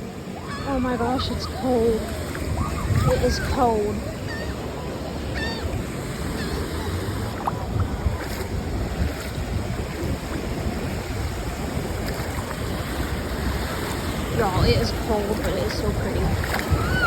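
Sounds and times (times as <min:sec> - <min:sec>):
sea surf washing: 0:00.0 - 0:17.0
wind rumbling on microphone: 0:00.0 - 0:17.0.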